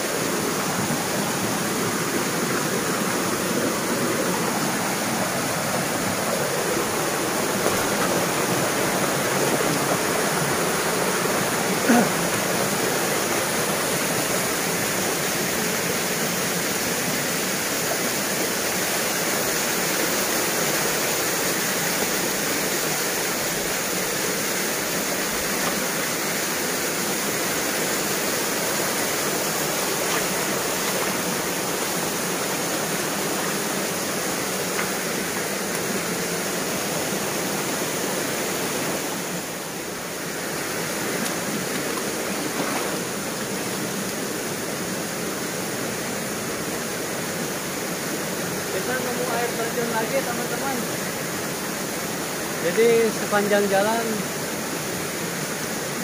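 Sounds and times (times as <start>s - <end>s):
rushing mountain stream: 0.0s - 56.0s
waterfall splashing on boulders: 0.0s - 56.0s.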